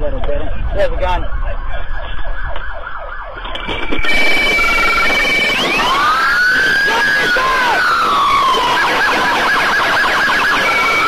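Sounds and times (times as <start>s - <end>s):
police sirens wailing: 0.0s - 11.0s.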